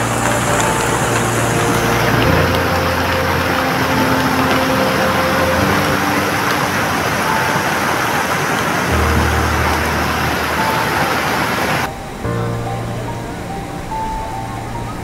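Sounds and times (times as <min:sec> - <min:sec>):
floodwater rushing: 0:00.0 - 0:15.0
heavy rain: 0:00.0 - 0:15.0.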